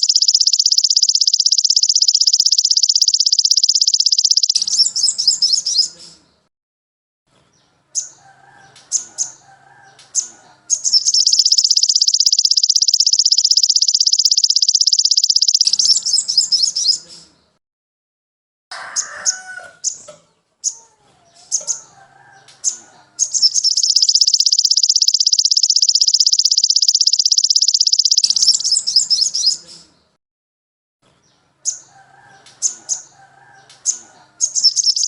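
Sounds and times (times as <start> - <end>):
songbird trill and chatter: 0.0 - 6.4, 7.5 - 17.6, 18.9 - 30.1, 31.2 - 35.0
bird chirps: 0.0 - 6.5, 7.5 - 17.6, 19.8 - 30.2, 31.2 - 35.0.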